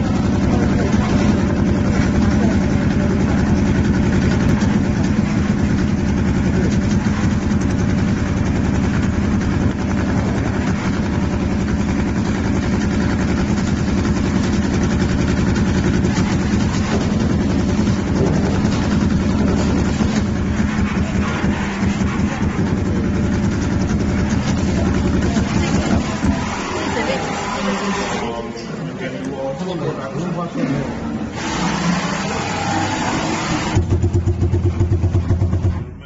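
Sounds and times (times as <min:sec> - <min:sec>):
low machine drone: 0:00.0 - 0:36.0.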